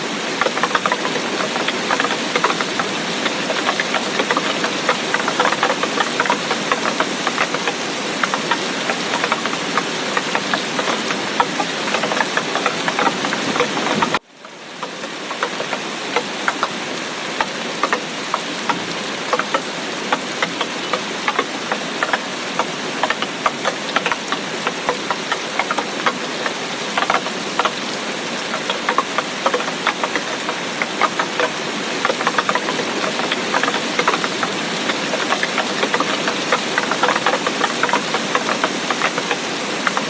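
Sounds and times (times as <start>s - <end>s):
heavy rain: 0.0s - 40.0s
raindrops splatting nearby: 0.0s - 40.0s.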